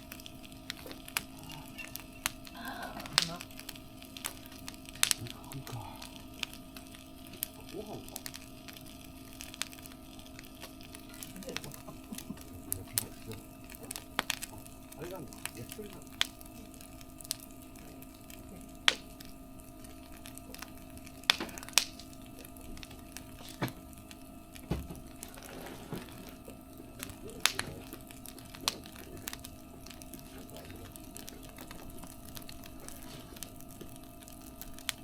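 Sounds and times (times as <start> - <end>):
faint steady background noise: 0.0 - 35.0
wood fire crackling: 0.0 - 35.0.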